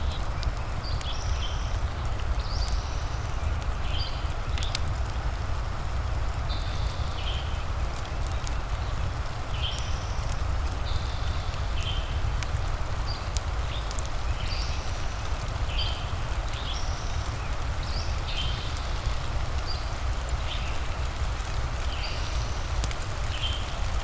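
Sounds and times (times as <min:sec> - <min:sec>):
fireplace crackling and popping: 0:00.0 - 0:24.0
rain-like hiss: 0:00.0 - 0:24.0.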